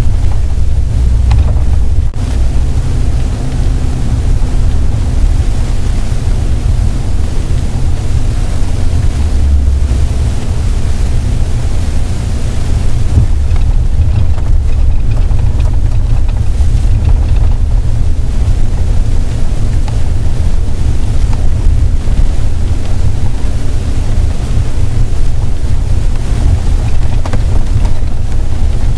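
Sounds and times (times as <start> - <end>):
vehicle engine and road rumble: 0.0 - 28.9.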